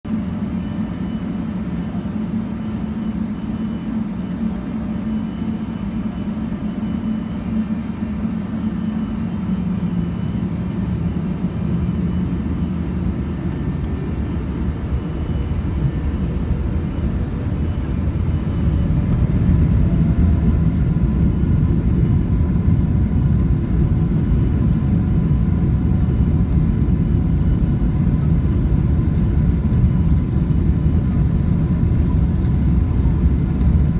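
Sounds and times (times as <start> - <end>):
jet engines rumbling: 0.2 - 33.9.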